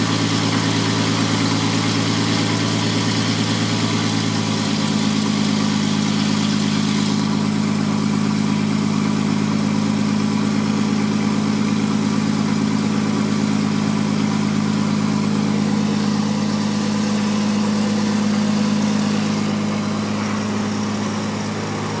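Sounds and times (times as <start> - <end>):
aircraft engine and propeller idling: 0.0 - 22.0.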